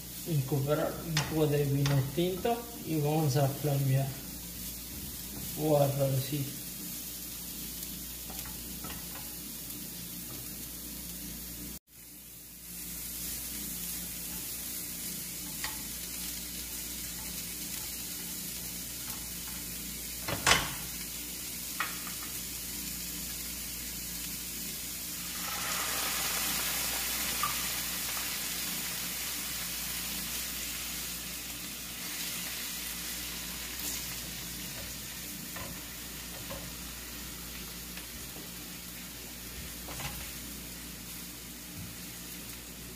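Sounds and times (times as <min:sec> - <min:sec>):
food sizzling in a frying pan: 0:00.0 - 0:42.9.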